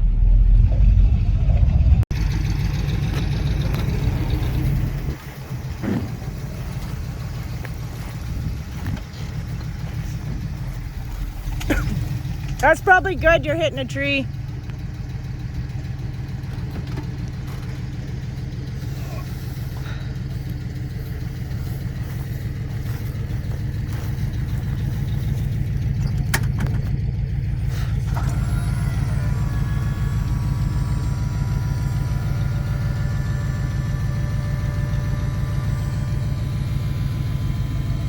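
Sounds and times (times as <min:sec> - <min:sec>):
high engine whine: 0:00.0 - 0:38.0
vehicle engine rumbling: 0:00.0 - 0:38.0.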